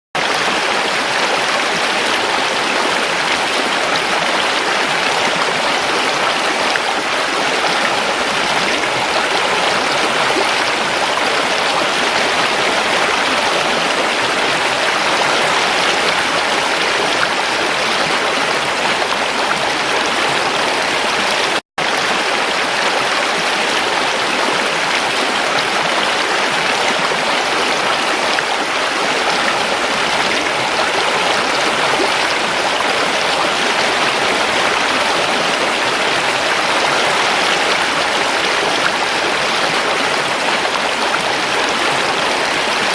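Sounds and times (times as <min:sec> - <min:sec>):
river water rushing and splashing: 0:00.2 - 0:42.9.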